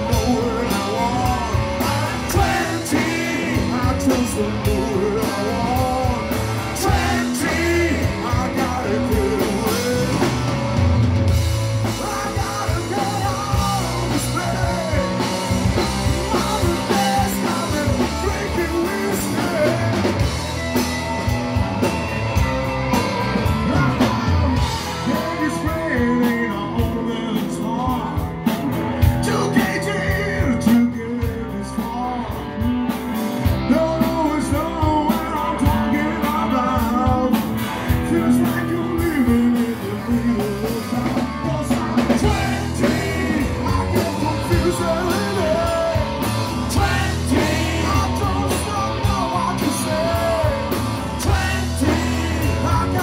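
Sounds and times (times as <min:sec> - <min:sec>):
man singing lead vocal: 0:00.0 - 0:22.4, 0:23.2 - 0:53.0
backing vocals: 0:00.0 - 0:32.4, 0:33.5 - 0:53.0
distorted electric guitars: 0:00.0 - 0:53.0
drum kit: 0:00.0 - 0:53.0.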